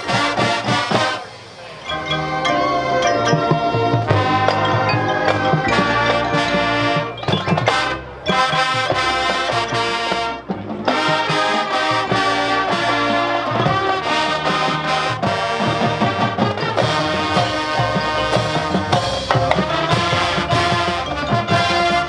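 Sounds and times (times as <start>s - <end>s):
drumline: 0.0s - 22.0s
marching band brass chords: 0.0s - 22.0s.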